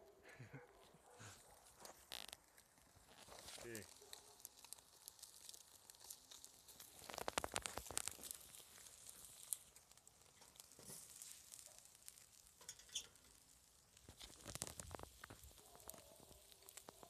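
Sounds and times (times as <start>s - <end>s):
wood fire crackling: 0.0s - 17.0s
sharp pops and ticks: 0.7s - 17.0s.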